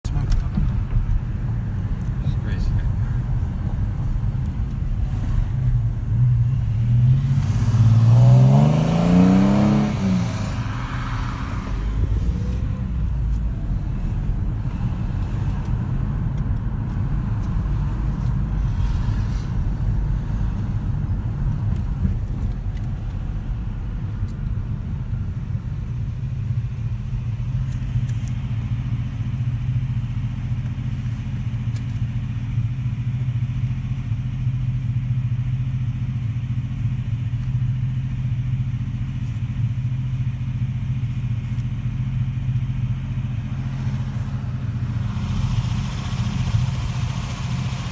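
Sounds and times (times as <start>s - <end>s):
car engine revving and idling: 0.0s - 47.9s.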